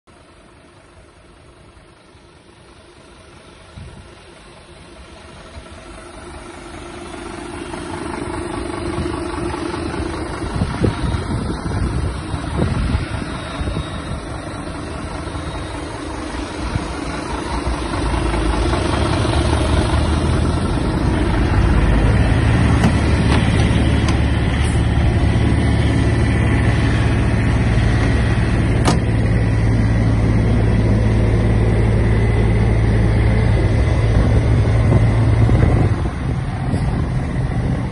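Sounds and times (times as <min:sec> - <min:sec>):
diesel truck idling: 0:00.1 - 0:37.9.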